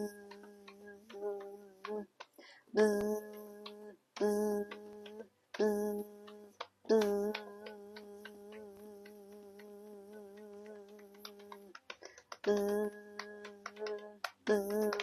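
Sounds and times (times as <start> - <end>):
person buzzing with voice: 0.0 - 2.1, 2.8 - 11.8, 12.4 - 15.0
faint clicks: 0.0 - 15.0.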